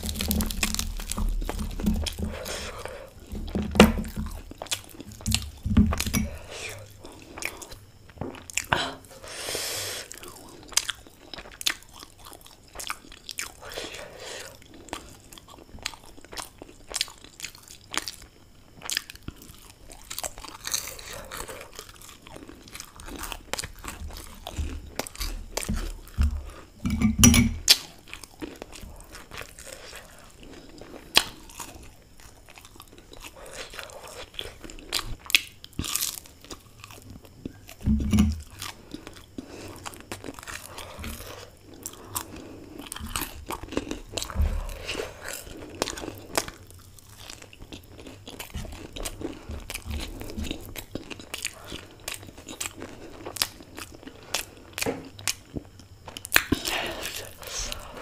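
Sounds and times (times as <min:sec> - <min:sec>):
crunching and chewing crisp pastry: 0:00.0 - 0:58.0.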